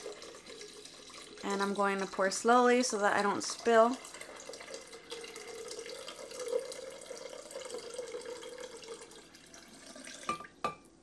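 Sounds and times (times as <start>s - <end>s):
water pouring into jar: 0.0s - 10.6s.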